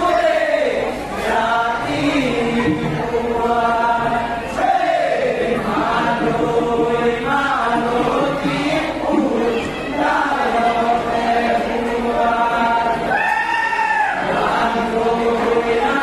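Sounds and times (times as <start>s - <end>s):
group singing folk song: 0.0s - 16.0s.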